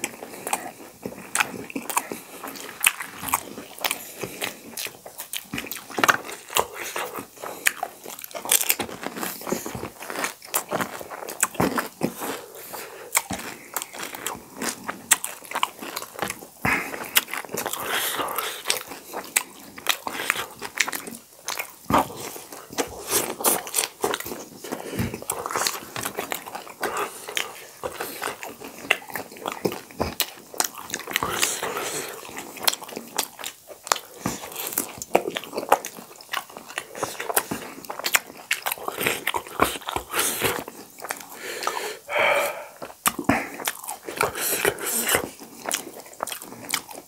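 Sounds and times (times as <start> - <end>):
chewing: 0.0 - 47.0.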